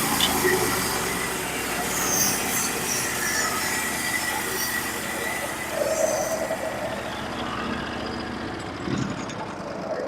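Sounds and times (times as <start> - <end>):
bandsaw blade whine and squeal: 0.0 - 8.4
engine running: 0.0 - 10.0.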